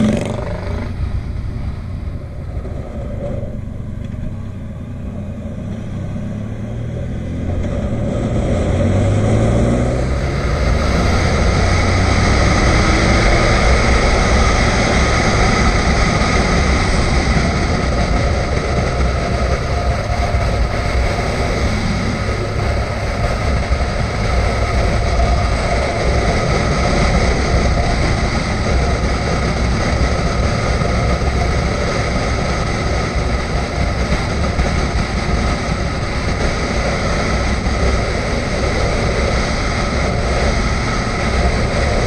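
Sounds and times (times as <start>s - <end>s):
motorcycle engine accelerating: 0.0s - 42.0s
road and wind noise: 0.0s - 42.0s.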